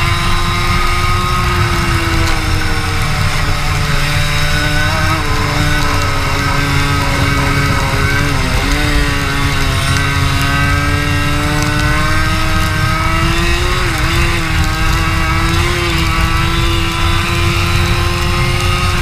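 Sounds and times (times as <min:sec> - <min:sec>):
kart engine at high revs: 0:00.0 - 0:19.0
wind and road noise rumble: 0:00.0 - 0:19.0.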